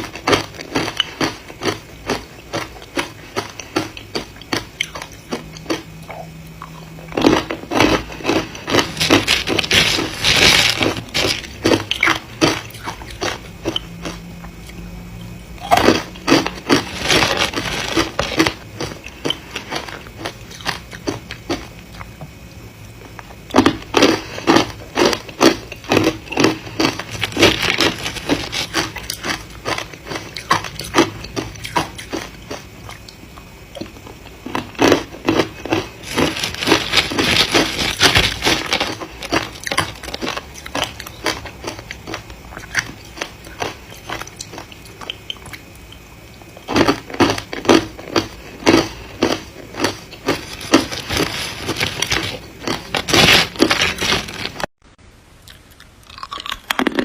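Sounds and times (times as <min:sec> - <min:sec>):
ice being chewed and crunched: 0:00.0 - 0:14.8, 0:15.6 - 0:22.1, 0:23.1 - 0:54.7, 0:55.4 - 0:57.0.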